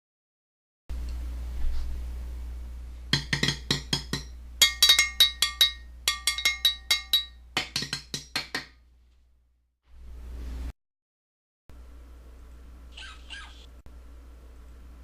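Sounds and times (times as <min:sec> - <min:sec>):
steady low hum: 0:00.9 - 0:10.7, 0:11.7 - 0:15.0.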